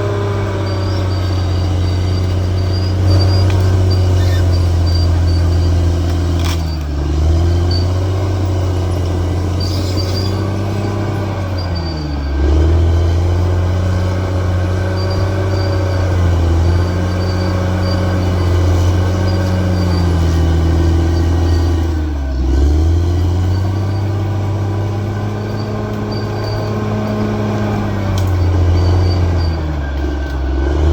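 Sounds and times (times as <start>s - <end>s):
bulldozer diesel engine under load: 0.0s - 30.9s.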